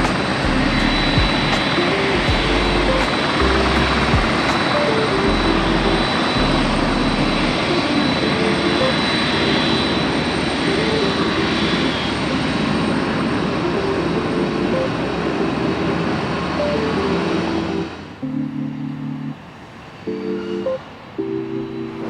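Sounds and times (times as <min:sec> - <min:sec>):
jet engines roaring and whining: 0:00.0 - 0:22.0.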